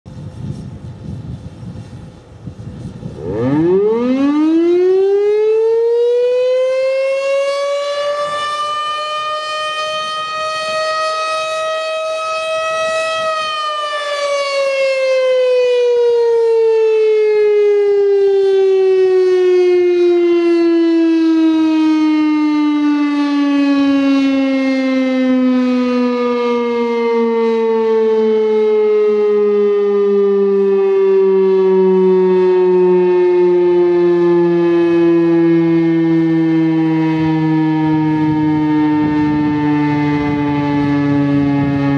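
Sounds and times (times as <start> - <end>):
warning siren wailing: 0.3 - 41.9.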